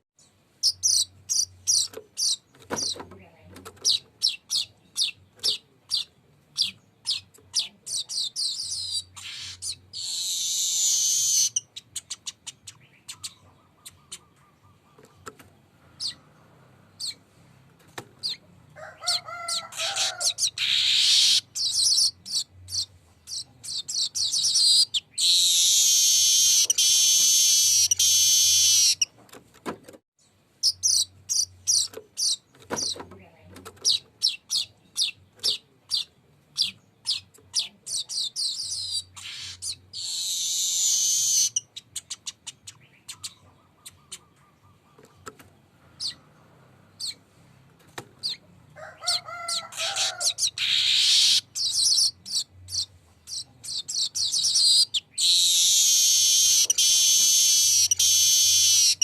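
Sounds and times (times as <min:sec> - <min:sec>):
bird singing with buzzy trills: 0:00.2 - 0:03.0, 0:03.7 - 0:17.2, 0:20.3 - 0:29.1, 0:30.2 - 0:33.0, 0:33.8 - 0:47.2, 0:49.9 - 0:59.0.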